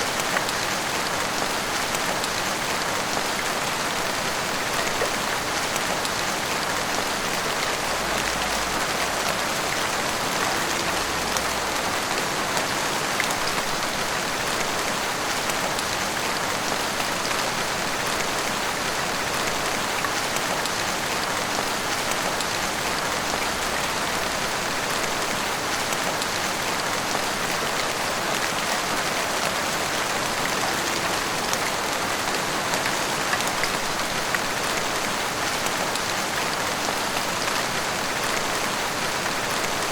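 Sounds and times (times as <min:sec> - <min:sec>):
heavy rain on roofs and street: 0:00.0 - 0:39.9.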